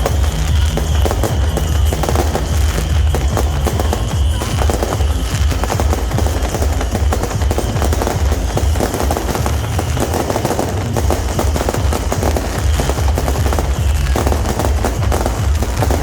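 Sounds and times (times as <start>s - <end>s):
firecrackers and rockets crackling: 0.0s - 16.0s.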